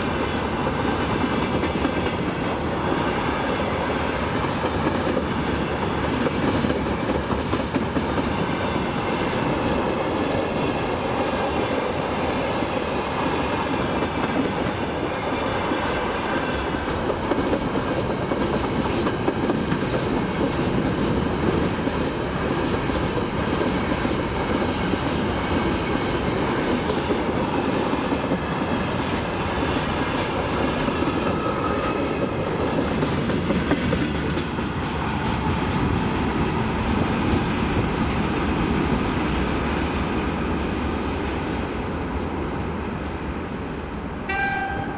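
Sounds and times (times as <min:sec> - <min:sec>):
train wheels clattering over rails: 0:00.0 - 0:43.2.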